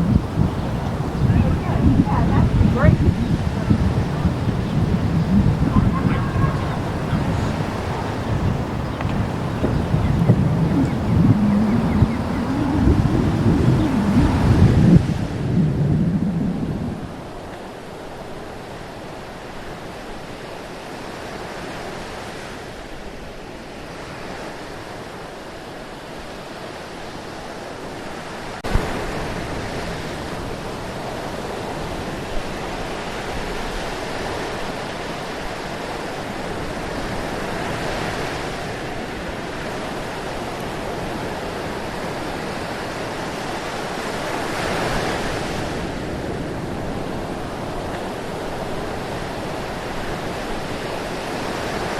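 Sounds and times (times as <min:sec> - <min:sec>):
rushing water: 0:00.0 - 0:51.9.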